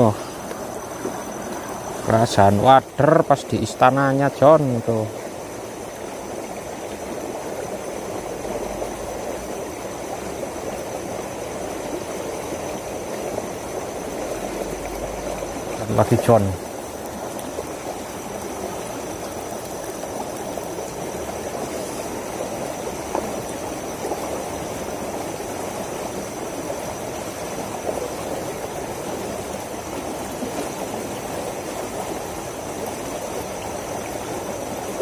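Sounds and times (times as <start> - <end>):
water rushing down a channel: 0.0 - 35.0.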